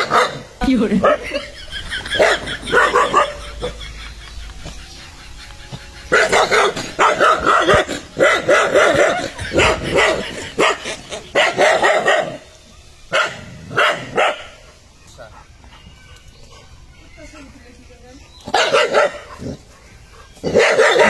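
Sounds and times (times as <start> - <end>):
dogs barking aggressively: 0.0 - 16.8, 18.3 - 21.0.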